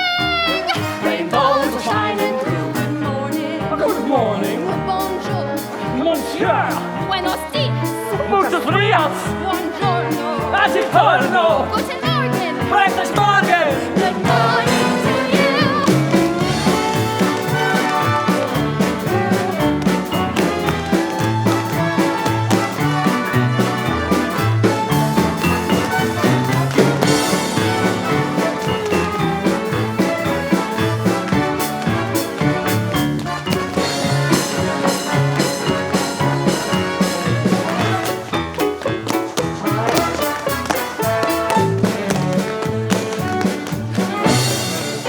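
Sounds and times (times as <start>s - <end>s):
orchestra playing swing music: 0.0s - 45.0s.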